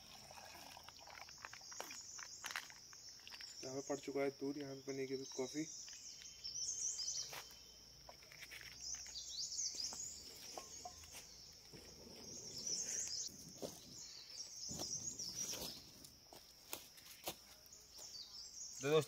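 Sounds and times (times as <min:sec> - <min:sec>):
birds chirping: 0:01.1 - 0:16.1, 0:17.1 - 0:19.0.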